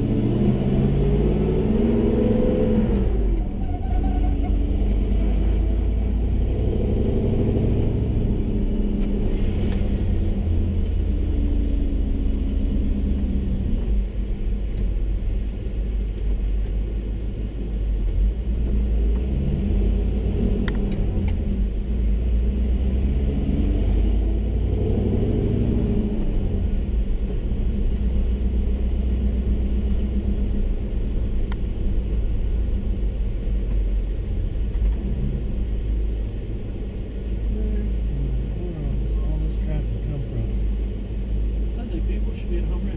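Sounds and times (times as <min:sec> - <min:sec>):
road noise: 0:00.0 - 0:42.9
truck engine low rumble: 0:00.0 - 0:42.9.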